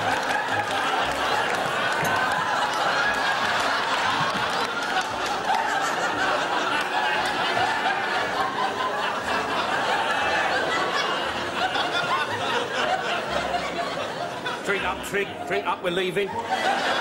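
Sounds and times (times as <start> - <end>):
studio audience laughing: 0.0 - 17.0.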